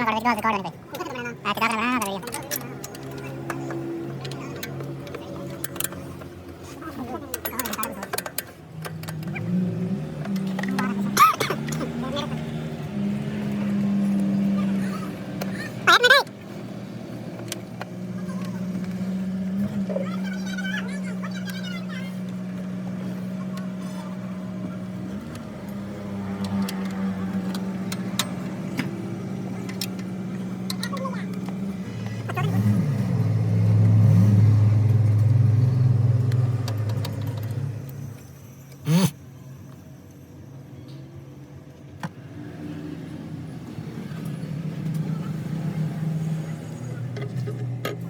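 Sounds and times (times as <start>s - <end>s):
engine humming: 0.0s - 48.0s.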